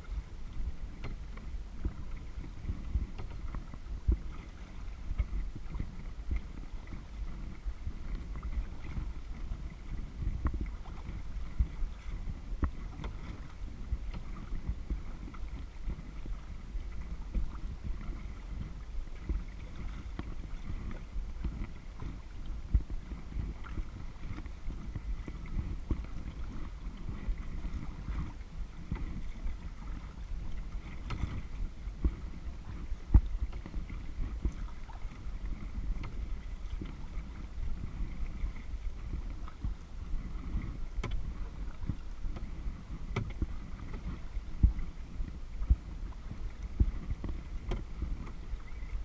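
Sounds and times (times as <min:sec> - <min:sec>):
water lapping and splashing: 0:00.0 - 0:49.0
wind rumble on microphone: 0:00.0 - 0:49.0.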